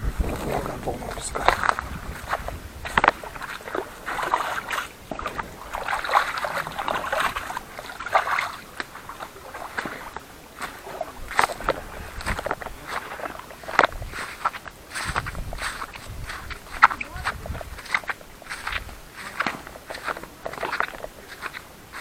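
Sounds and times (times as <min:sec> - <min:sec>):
crunching footsteps: 0:00.0 - 0:22.0
water sloshing and lapping: 0:00.0 - 0:22.0.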